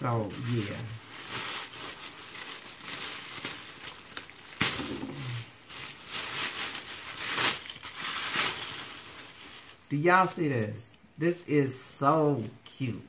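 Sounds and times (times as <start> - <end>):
plastic wrapping crinkling: 0.0 - 10.3, 12.2 - 13.0.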